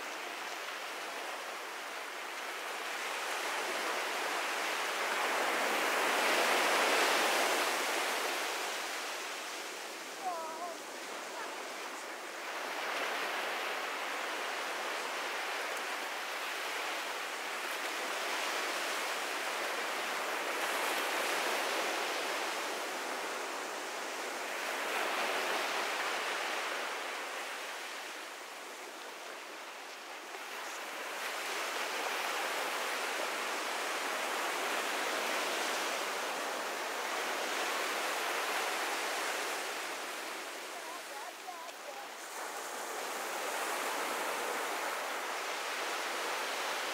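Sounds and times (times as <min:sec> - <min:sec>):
surf breaking on beach: 0:02.8 - 0:27.8, 0:30.3 - 0:46.9.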